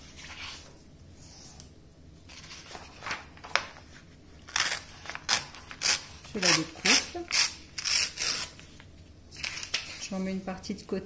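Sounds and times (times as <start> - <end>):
paper rustling being folded: 0.0 - 0.9, 2.2 - 10.2.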